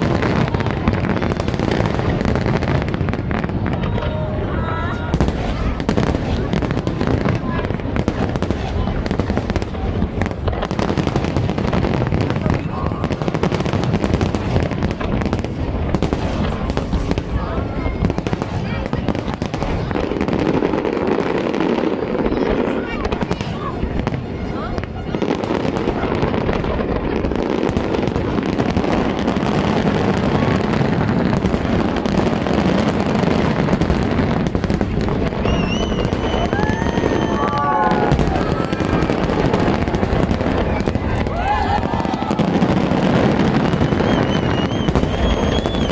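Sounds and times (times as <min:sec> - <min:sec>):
crowd voices: 0:00.0 - 0:45.9
fireworks bangs and crackles: 0:00.0 - 0:45.9.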